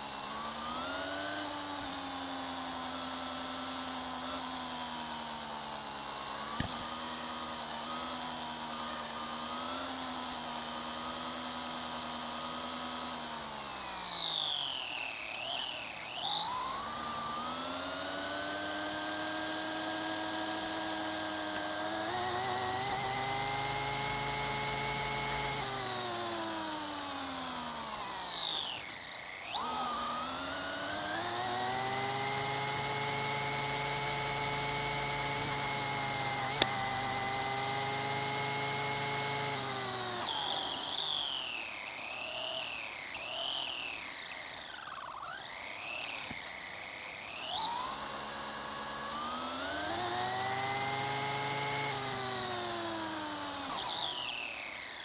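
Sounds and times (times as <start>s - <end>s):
rc car motor whining: 0.0s - 55.0s.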